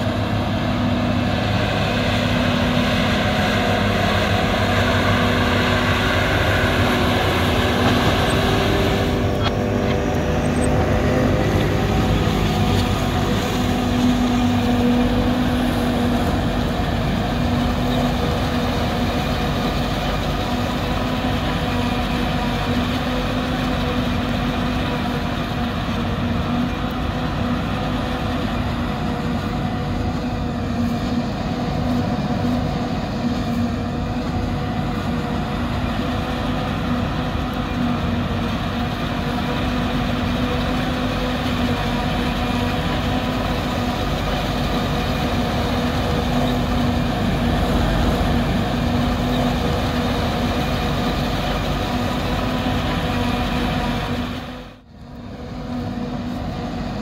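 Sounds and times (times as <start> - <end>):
harvester and tractor engines rumbling: 0.0 - 57.0.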